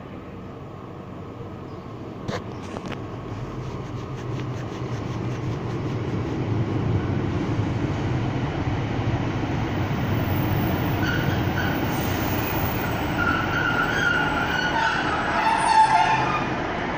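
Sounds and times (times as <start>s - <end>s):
train engine hum and wheel noise: 0.0s - 16.9s.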